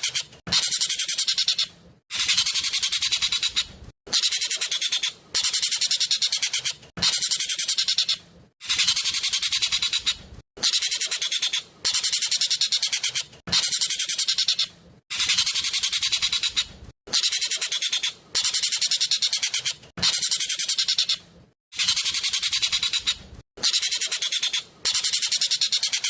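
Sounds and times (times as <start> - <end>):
bird singing rattling bursts: 0.0 - 26.0.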